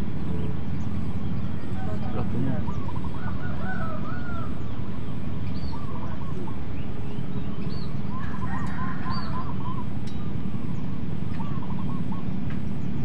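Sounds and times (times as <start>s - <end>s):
birds calling: 0.0s - 13.0s
steady low rumble: 0.0s - 13.0s.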